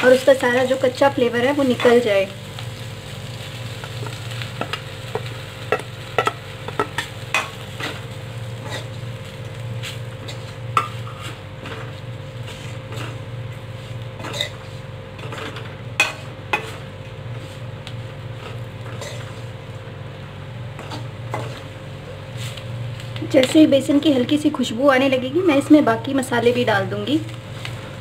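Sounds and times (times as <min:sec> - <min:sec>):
oil sizzling: 0:00.0 - 0:28.0.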